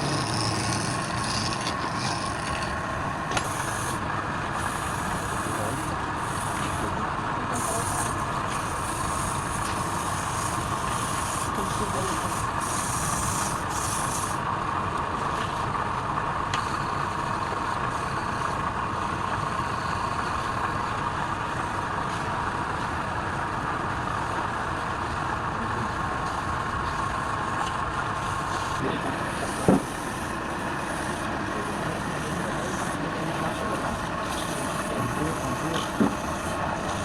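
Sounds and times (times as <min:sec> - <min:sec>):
wood lathe whining: 0:00.0 - 0:37.0.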